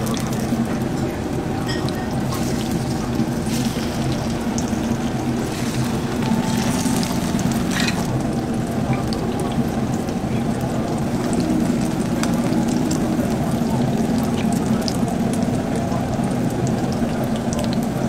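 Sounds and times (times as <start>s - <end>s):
low hum: 0.0s - 15.2s
food sizzling in oil: 0.0s - 15.4s
oil crackling and spitting: 0.0s - 18.0s.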